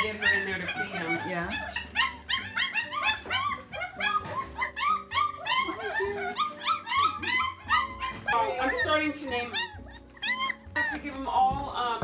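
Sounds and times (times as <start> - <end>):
puppies whining and yipping: 0.0 - 11.5
background music: 0.0 - 12.0.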